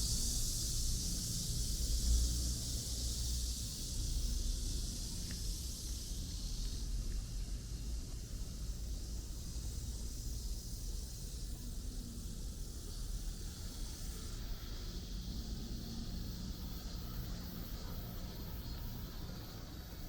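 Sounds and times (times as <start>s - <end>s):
low city rumble: 0.0s - 20.0s.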